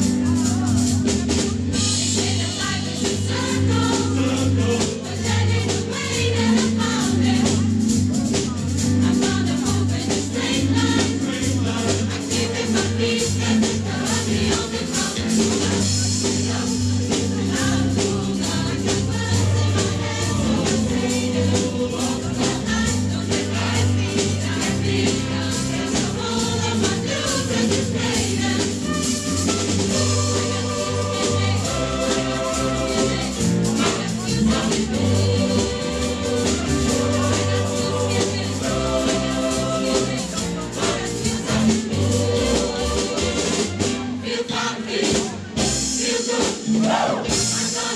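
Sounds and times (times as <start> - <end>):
steady percussion beat: 0.0 - 47.9
choir singing: 1.7 - 8.0, 8.7 - 47.9.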